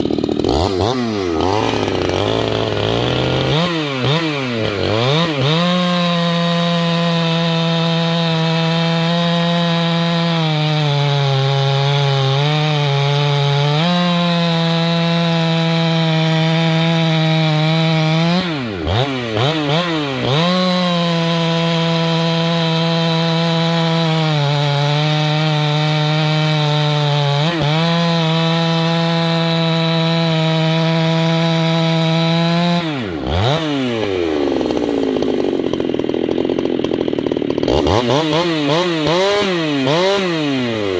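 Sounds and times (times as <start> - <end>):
chainsaw running at high revs: 0.0 - 40.9.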